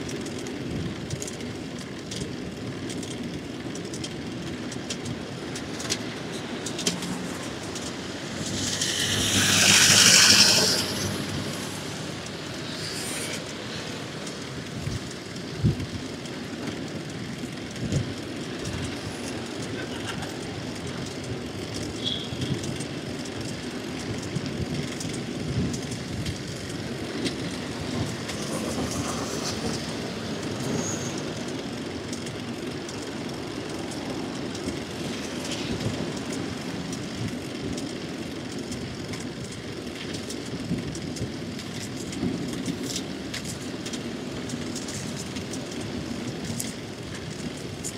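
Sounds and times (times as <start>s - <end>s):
bicycle tyre and road rumble: 0.0s - 47.9s.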